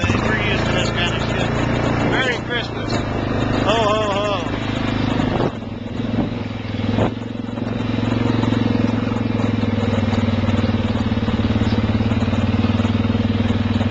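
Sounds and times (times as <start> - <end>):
atv engine idling: 0.0 - 13.9.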